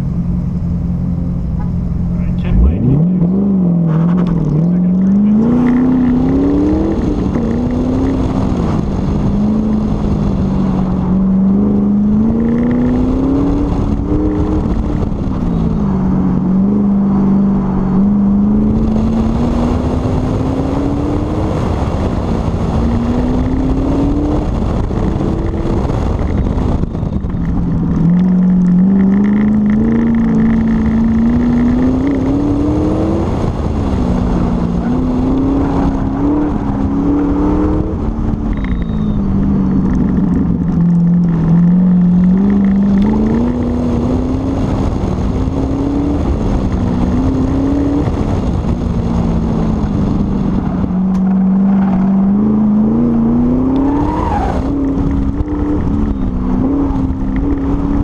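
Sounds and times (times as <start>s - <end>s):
sports car engine revving: 0.0s - 58.0s
wind noise on microphone: 2.3s - 58.0s.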